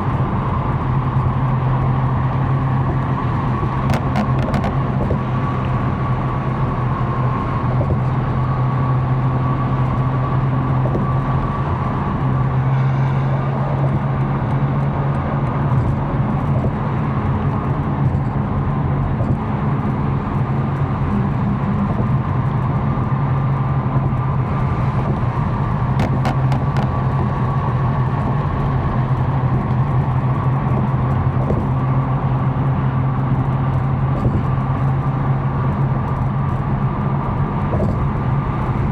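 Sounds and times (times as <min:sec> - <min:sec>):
car engine droning: 0:00.0 - 0:38.9
tyre and road noise: 0:00.0 - 0:38.9.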